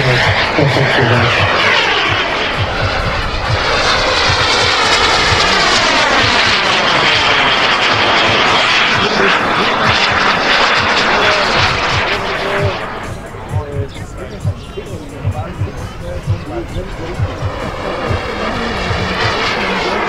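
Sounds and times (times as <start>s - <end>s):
model jet turbine flying past: 0.0s - 20.0s.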